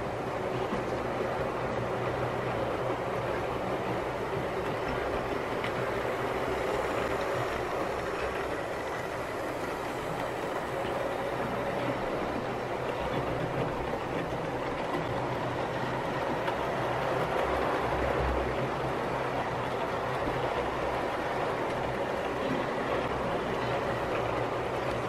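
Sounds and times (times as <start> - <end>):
model train wheels rumbling: 0.0 - 25.0.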